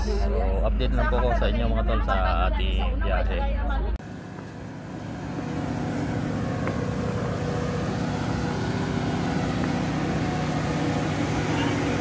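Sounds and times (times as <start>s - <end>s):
ferry engine drone: 0.0s - 12.0s.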